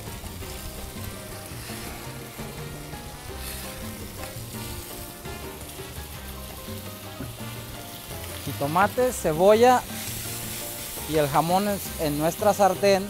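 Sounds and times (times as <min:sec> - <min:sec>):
food sizzling in hot oil: 0:00.0 - 0:13.0
soft background music: 0:00.0 - 0:13.0.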